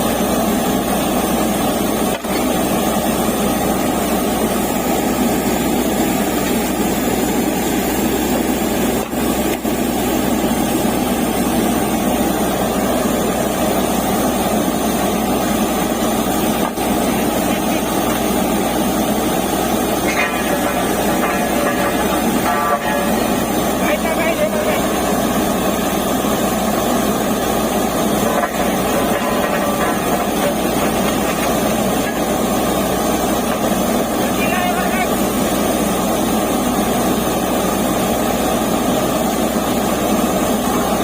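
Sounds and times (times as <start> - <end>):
drilling rig running: 0.0 - 41.0.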